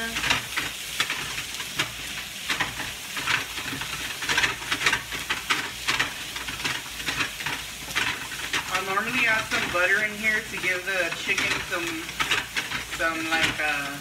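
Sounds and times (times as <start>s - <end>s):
chicken sizzling in a frying pan: 0.0s - 14.0s
spatula scraping a pan: 0.0s - 14.0s.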